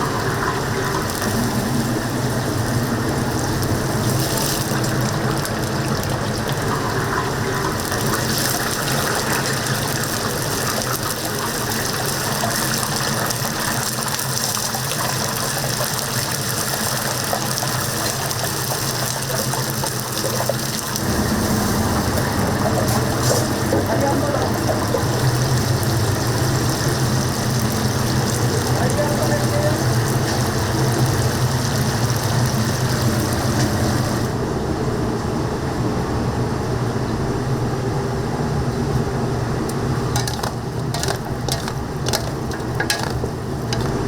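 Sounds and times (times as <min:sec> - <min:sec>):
oil sizzling: 0:00.0 - 0:34.3, 0:39.7 - 0:44.0.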